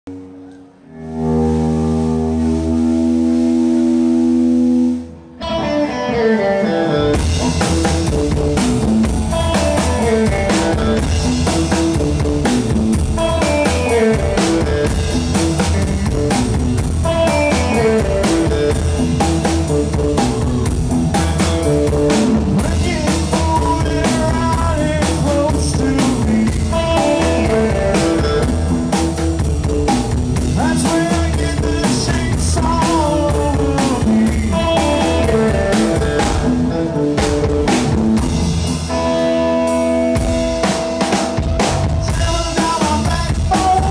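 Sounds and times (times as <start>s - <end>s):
rockabilly band playing live: 2.4s - 43.9s
drums and cymbals: 7.2s - 43.9s.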